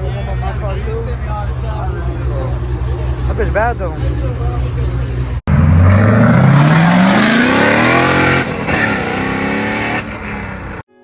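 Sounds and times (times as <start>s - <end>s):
car engine accelerating: 0.0s - 10.8s.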